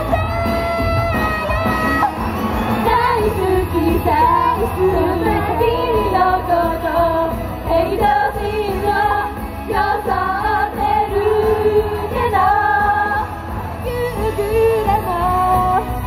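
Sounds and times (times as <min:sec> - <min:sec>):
backing track: 0:00.0 - 0:16.0
women singing pop song: 0:02.8 - 0:16.0.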